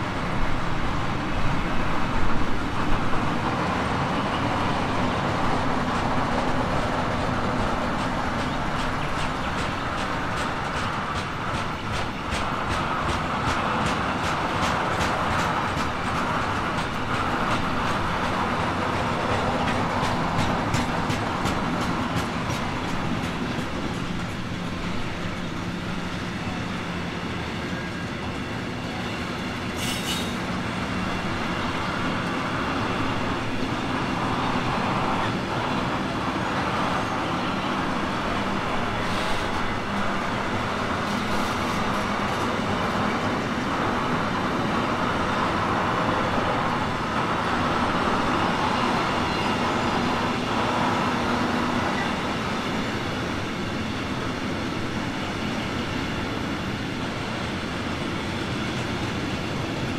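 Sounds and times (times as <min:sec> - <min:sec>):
train rumble: 0:00.0 - 0:59.9
train wheels clicking over rails: 0:01.5 - 0:59.9.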